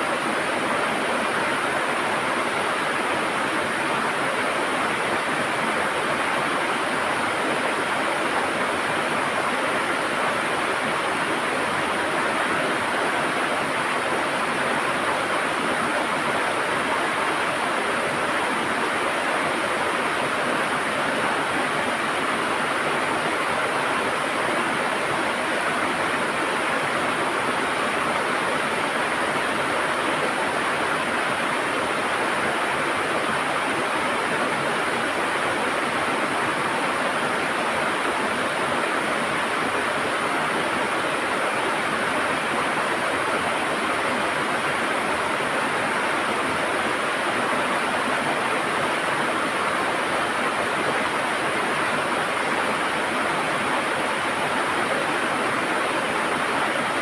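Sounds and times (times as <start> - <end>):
river water gurgling and rushing: 0.0 - 57.0.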